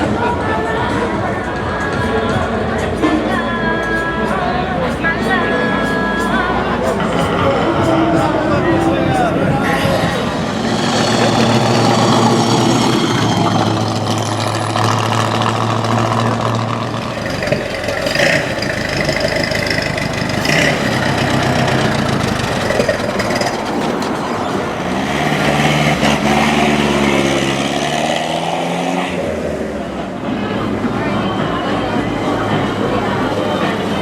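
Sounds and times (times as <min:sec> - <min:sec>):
car engines idling: 0:00.0 - 0:34.0
car pulling away: 0:00.0 - 0:34.0.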